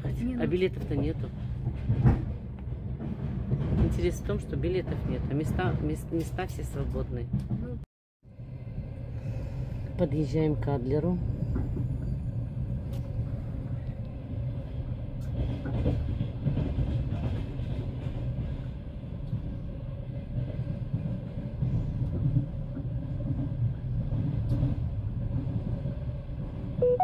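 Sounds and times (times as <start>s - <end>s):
train rumbling inside carriage: 0.0s - 27.0s.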